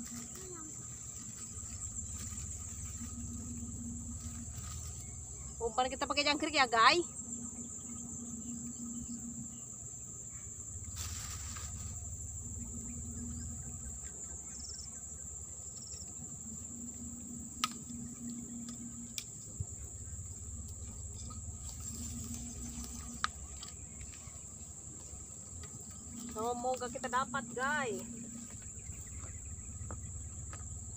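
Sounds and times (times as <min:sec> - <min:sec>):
high-pitched insect chorus: 0:00.0 - 0:30.9.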